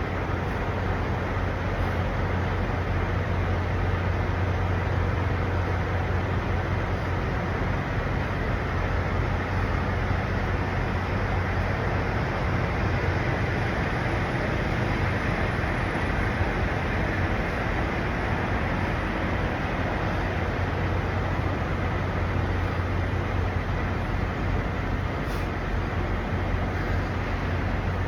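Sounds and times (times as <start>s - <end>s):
diesel trucks idling: 0.0s - 28.0s
road traffic noise: 0.0s - 28.0s.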